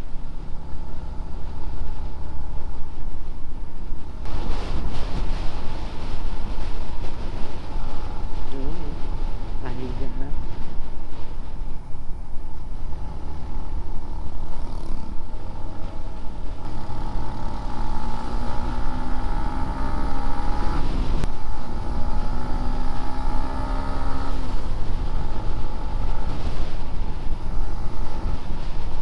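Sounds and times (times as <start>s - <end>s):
motorcycle engine accelerating: 0.0s - 29.0s
wind rumble on microphone: 0.0s - 29.0s.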